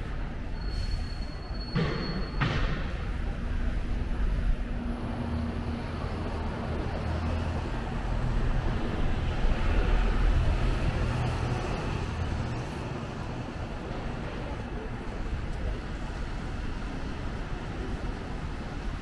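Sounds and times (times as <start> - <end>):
road noise: 0.0 - 19.0
passing vehicle engines rumbling: 2.5 - 19.0.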